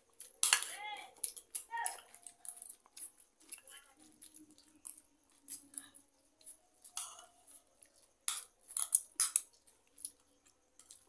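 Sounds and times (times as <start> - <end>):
noodles slurped and chewed: 1.2 - 11.0.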